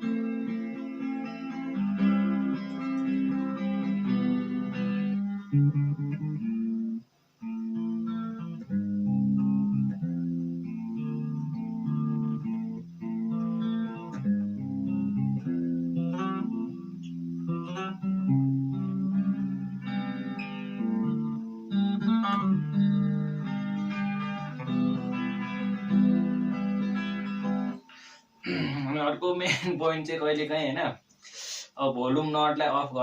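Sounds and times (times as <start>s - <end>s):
clean electric guitar: 0.0s - 29.3s.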